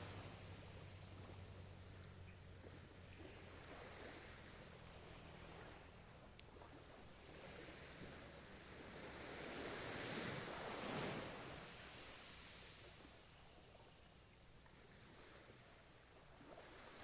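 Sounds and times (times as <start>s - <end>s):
ocean waves washing on shore: 0.0s - 14.0s, 14.6s - 17.0s.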